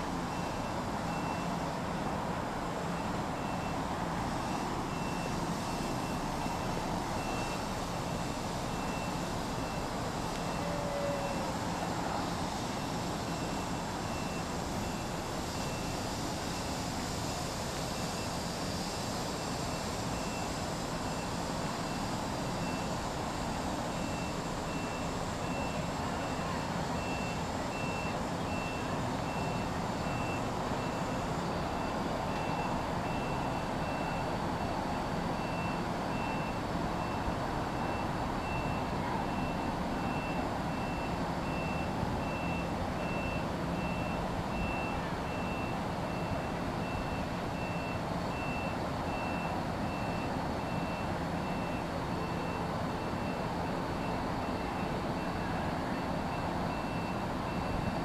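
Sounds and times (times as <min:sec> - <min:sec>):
train rumbling slowly: 0:00.0 - 0:58.0.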